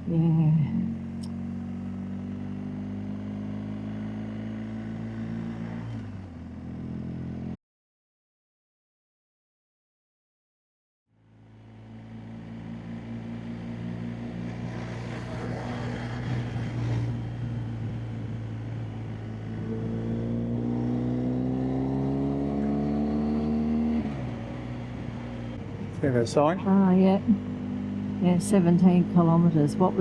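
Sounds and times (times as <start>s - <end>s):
motorcycle engine running: 0.0s - 7.6s, 11.2s - 30.0s.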